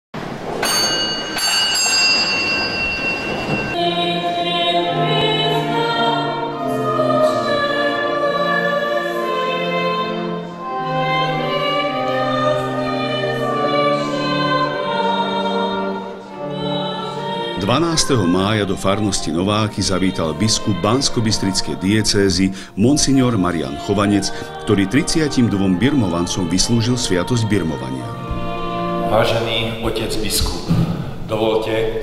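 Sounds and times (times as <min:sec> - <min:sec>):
choir singing a hymn: 0:03.7 - 0:30.5.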